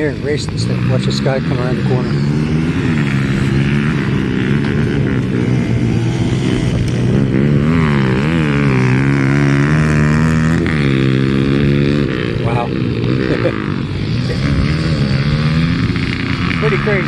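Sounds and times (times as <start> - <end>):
high engine whine: 0.0 - 17.0
motorcycle engine revving: 0.0 - 17.0.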